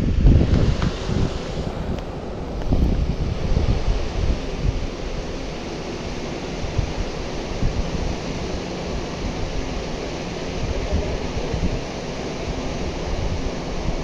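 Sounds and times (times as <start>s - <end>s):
wind buffeting microphone: 0.0s - 14.0s
river water rushing: 0.2s - 14.0s.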